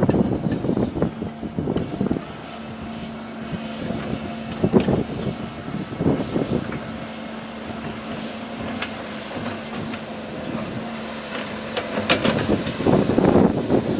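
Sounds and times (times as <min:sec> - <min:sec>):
distant jet engines humming: 0:00.0 - 0:13.9
wind buffeting microphone: 0:00.0 - 0:13.9.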